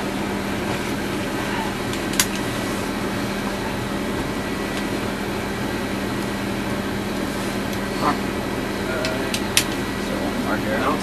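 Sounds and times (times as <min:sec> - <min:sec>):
ambulance mechanical hum: 0:00.0 - 0:11.0.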